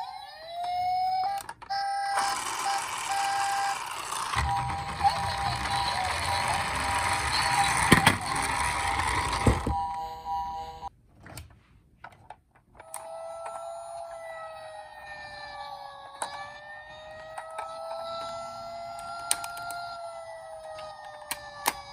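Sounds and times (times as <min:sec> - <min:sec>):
toy car rolling noise: 0:00.0 - 0:09.8, 0:12.8 - 0:21.9
toy electronic siren wailing: 0:00.0 - 0:10.9, 0:12.8 - 0:21.9.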